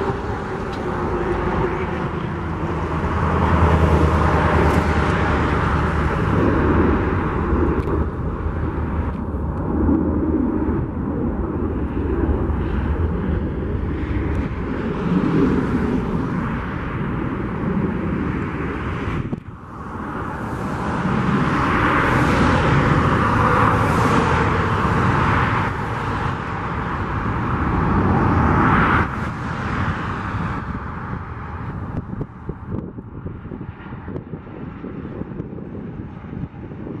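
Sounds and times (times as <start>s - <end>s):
airliner jet engines: 0.0s - 37.0s.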